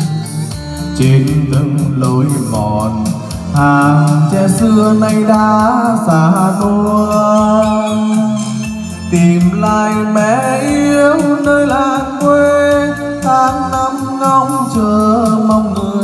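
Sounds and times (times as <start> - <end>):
music through loudspeakers: 0.0 - 16.0.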